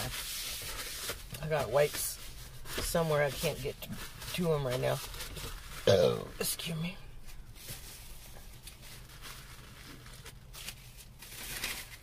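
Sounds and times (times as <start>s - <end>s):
low car cabin hum: 0.0s - 11.1s
faint rustling and handling: 0.0s - 12.0s.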